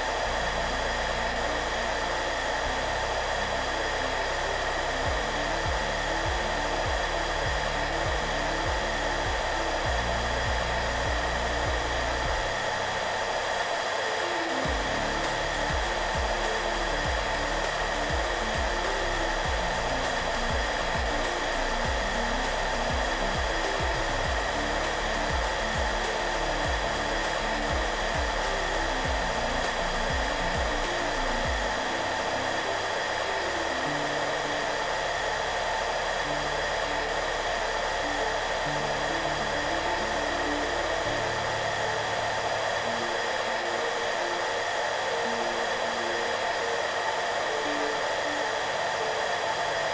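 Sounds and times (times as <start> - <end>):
hair dryer blowing: 0.0 - 49.9
soft background music: 0.0 - 49.9.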